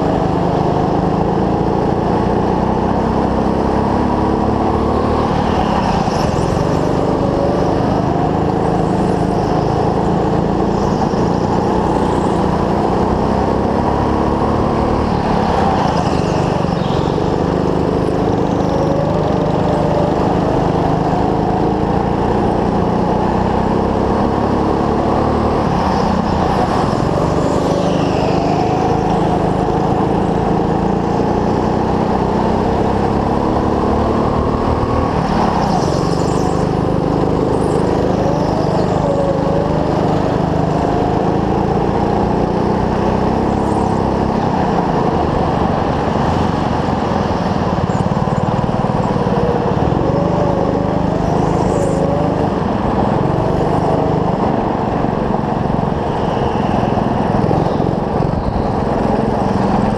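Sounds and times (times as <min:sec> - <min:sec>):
go-kart engine accelerating: 0:00.0 - 0:59.9.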